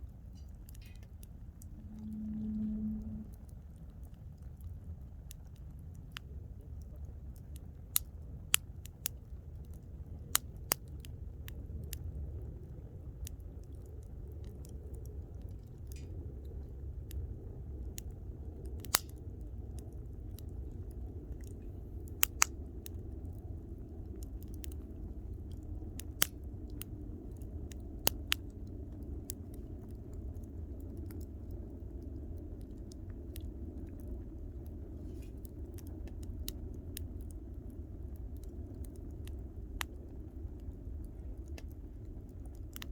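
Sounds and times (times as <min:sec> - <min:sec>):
campfire crackling: 0:00.0 - 0:42.9
low rumble of fire: 0:00.0 - 0:42.9.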